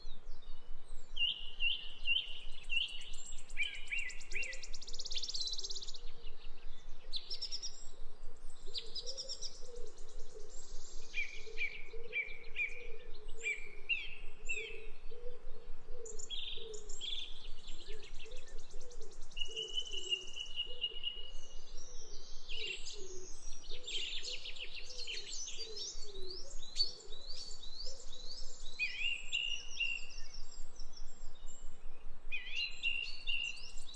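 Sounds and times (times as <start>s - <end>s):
background hiss: 0.1s - 11.6s, 13.2s - 33.9s
birds chirping and singing: 0.1s - 15.4s, 16.0s - 33.9s.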